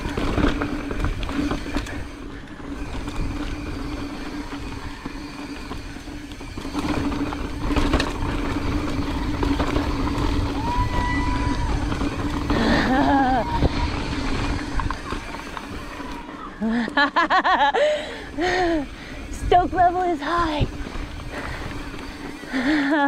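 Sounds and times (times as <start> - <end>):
bike tyres rattling on rock: 0.0 - 23.0.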